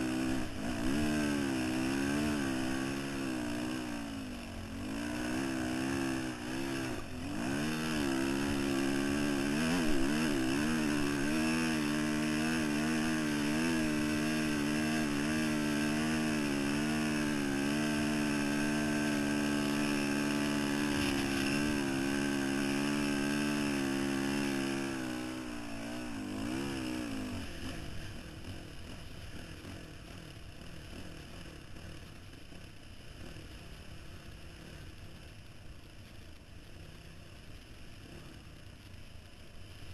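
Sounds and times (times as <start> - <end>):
dirt bike engine revving: 0.0 - 32.1.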